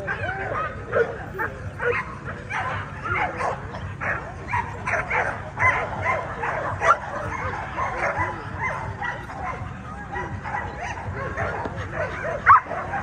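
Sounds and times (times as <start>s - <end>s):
dogs barking and yipping: 0.0s - 13.0s
murmur of crowd voices: 0.0s - 13.0s.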